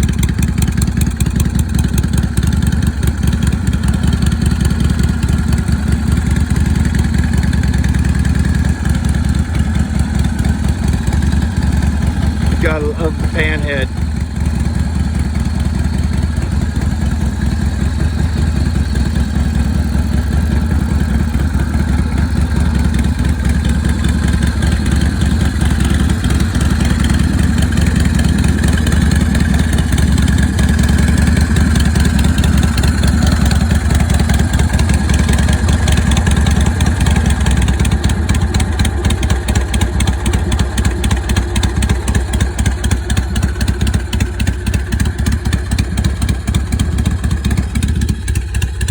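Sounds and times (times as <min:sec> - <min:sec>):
v-twin engine idling: 0:00.0 - 0:48.9.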